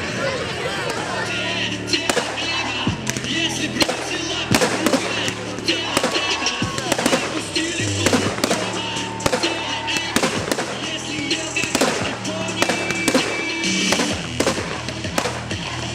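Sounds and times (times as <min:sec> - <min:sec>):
background music: 0:00.0 - 0:15.9
fireworks bangs and crackles: 0:00.8 - 0:15.9.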